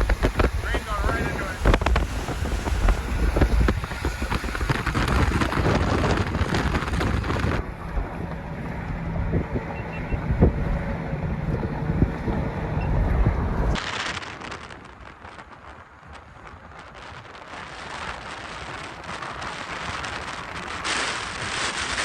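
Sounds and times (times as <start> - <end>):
vehicle rumble and road noise: 0.0 - 22.0
wind buffeting microphone: 0.0 - 22.0.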